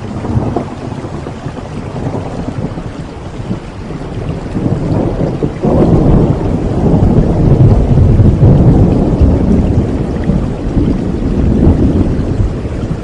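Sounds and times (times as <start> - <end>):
rain falling: 0.0 - 13.0
rolling thunder: 0.0 - 13.0.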